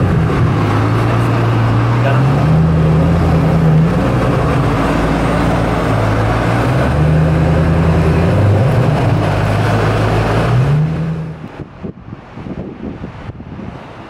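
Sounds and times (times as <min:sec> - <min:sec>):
loud car engine idling: 0:00.0 - 0:11.7.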